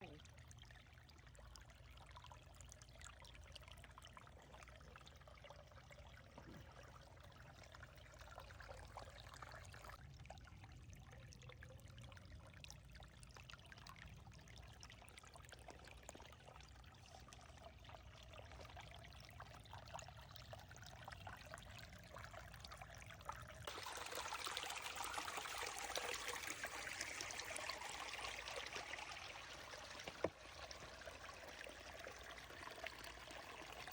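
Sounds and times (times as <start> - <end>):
creek water trickling: 0.0 - 33.9.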